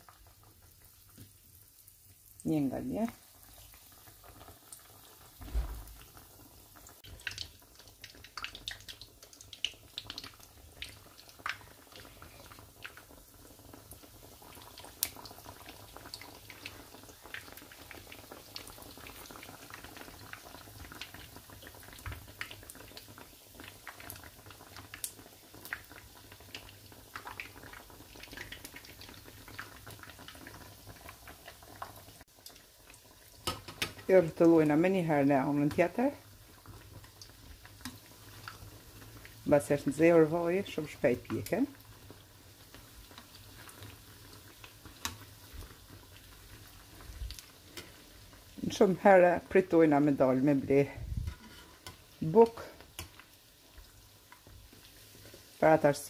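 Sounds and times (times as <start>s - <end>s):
oil sizzling in a frying pan: 0.0s - 56.0s.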